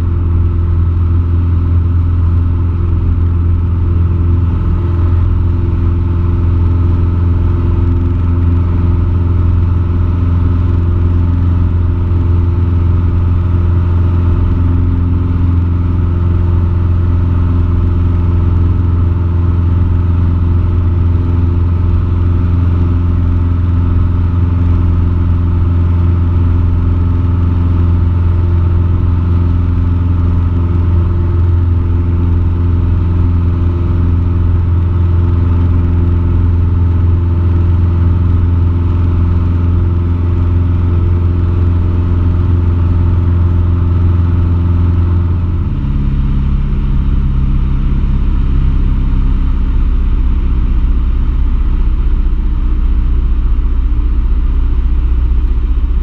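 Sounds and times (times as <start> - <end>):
aircraft engine and propeller droning: 0.0 - 54.2.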